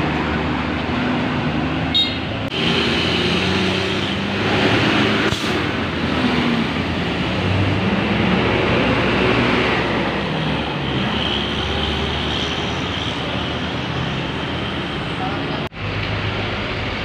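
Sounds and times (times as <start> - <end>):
bus diesel engine: 0.0 - 17.0
road traffic noise: 0.0 - 17.0.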